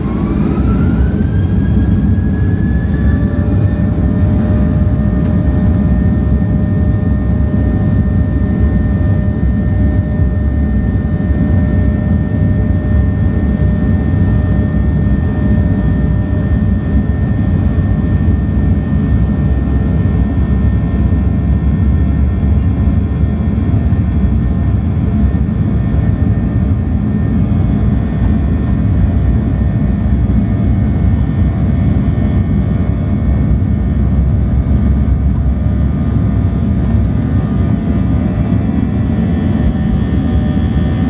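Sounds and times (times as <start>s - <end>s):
jet engines at takeoff thrust: 0.0s - 41.0s.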